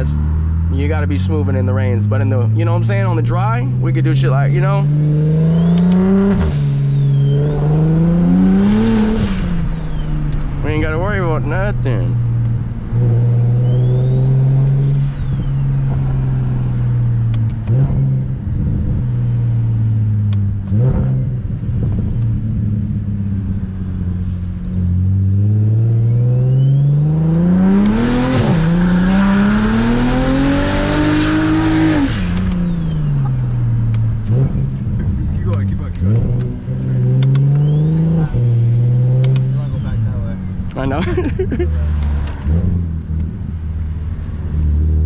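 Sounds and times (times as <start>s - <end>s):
car engine accelerating: 0.0s - 45.0s.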